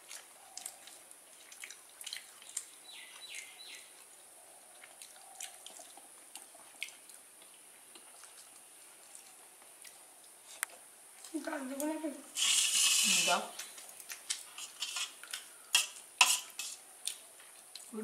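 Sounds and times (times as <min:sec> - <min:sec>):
person eating rice: 0:00.0 - 0:11.3, 0:12.4 - 0:17.9.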